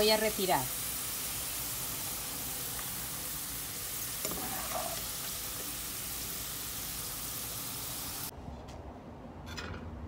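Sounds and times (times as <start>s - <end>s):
hot oil sizzling: 0.0s - 8.3s.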